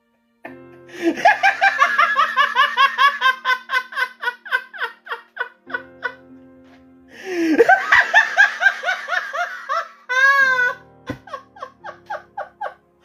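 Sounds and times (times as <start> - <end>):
man laughing loudly: 1.0 - 6.2, 7.2 - 12.8.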